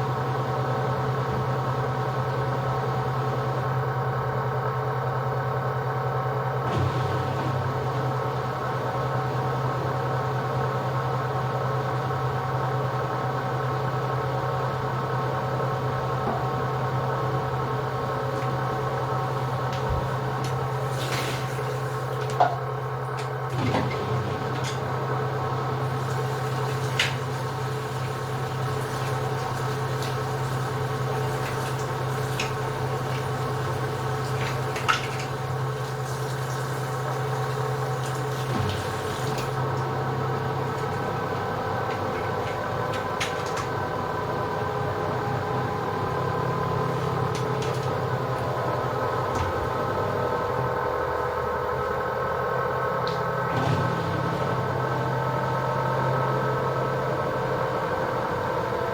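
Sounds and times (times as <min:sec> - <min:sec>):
washing machine spin cycle hum: 0:00.0 - 0:58.9.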